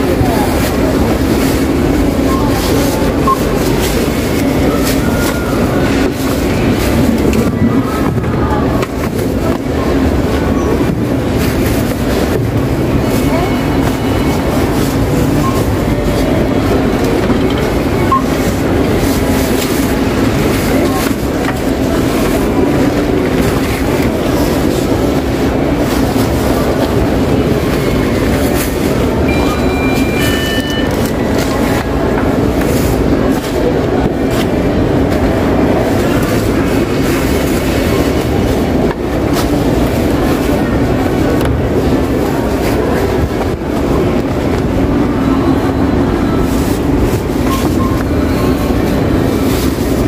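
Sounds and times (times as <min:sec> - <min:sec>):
murmuring voices: 0:00.0 - 0:50.0
store noise rumble: 0:00.0 - 0:50.0.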